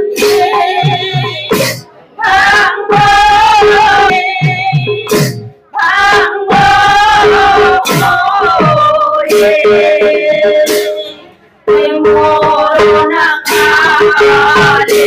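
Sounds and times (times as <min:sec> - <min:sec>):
women singing devotional song: 0:00.0 - 0:15.0.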